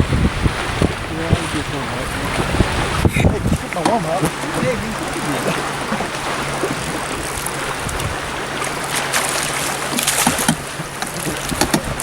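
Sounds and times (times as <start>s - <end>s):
water sloshing around a boat: 0.0s - 12.0s
sharp splashes or knocks: 0.6s - 12.0s.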